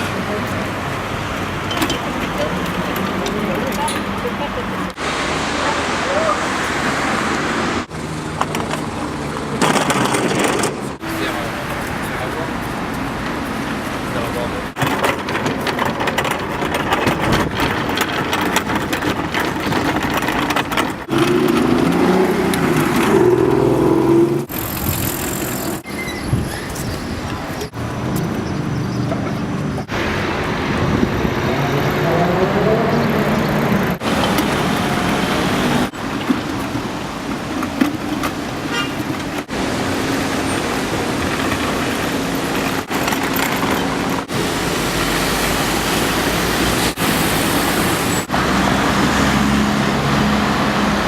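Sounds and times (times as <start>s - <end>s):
vehicles passing on street: 0.0s - 51.0s.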